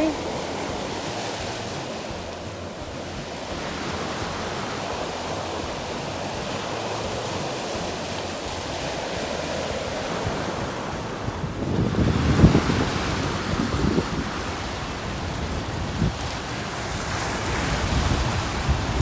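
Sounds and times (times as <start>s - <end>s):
ocean waves on beach: 0.0s - 19.0s
wind buffeting microphone: 0.0s - 19.0s.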